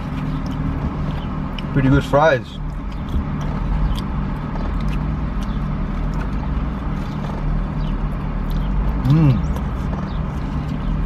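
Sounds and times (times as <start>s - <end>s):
car engine idling: 0.0s - 11.0s
person eating fries: 0.0s - 11.0s.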